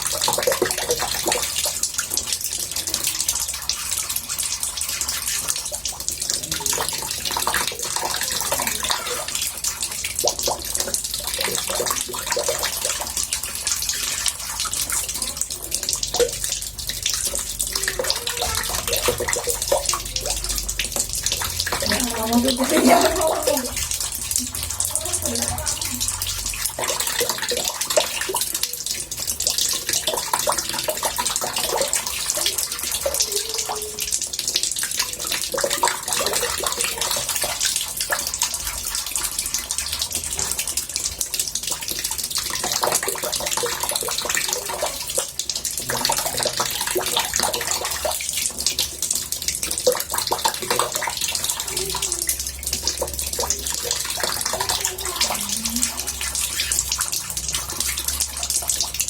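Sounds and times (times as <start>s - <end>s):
water running into bathtub: 0.0s - 59.0s.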